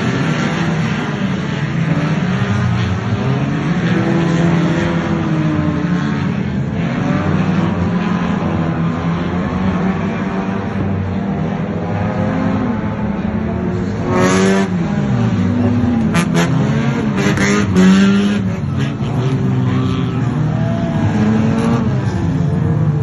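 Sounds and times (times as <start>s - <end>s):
racing car engines revving past: 0.0s - 23.0s.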